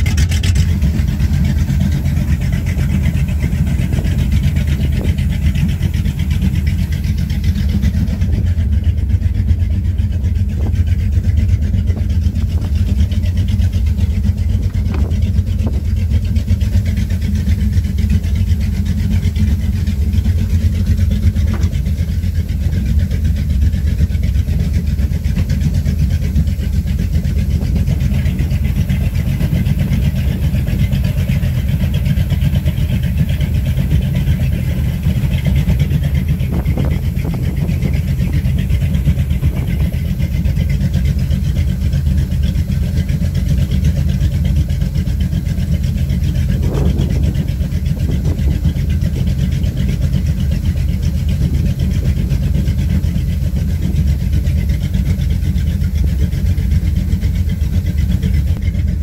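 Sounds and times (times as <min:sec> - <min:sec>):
boat engine idling: 0:00.0 - 0:59.0.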